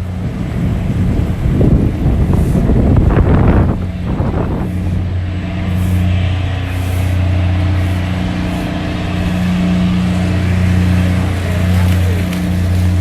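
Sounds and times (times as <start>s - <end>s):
vehicle engine humming: 0.0s - 13.0s
wind noise on microphone: 0.0s - 13.0s.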